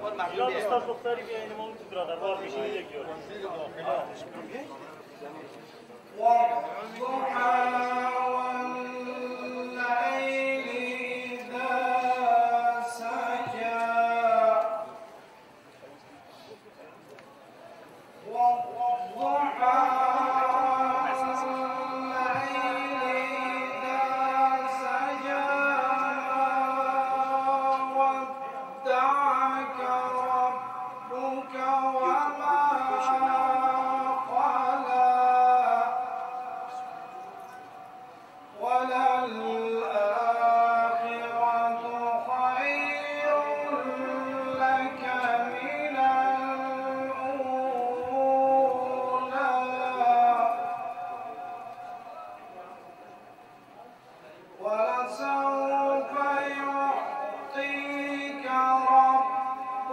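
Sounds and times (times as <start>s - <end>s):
man chanting into microphone: 6.1s - 15.2s, 18.2s - 53.5s, 54.6s - 59.9s.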